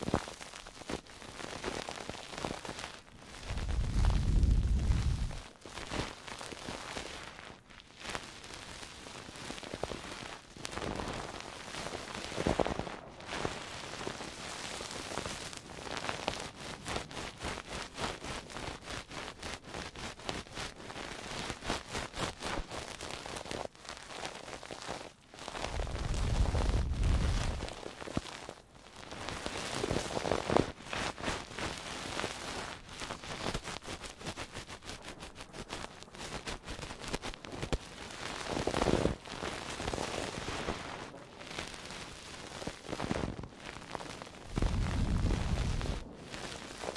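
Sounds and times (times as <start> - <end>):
crackling and rustling on microphone: 0.0 - 46.9.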